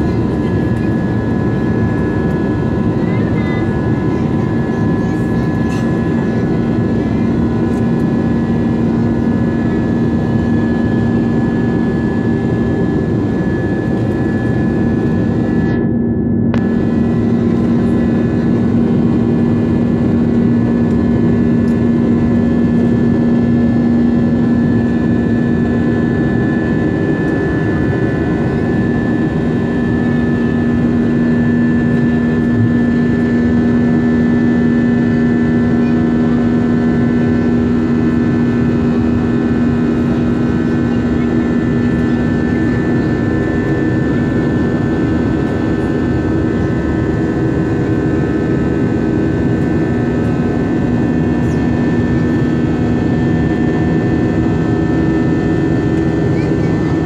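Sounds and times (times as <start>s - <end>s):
high engine whine: 0.0s - 57.0s
jet engine rush in cabin: 0.0s - 57.0s.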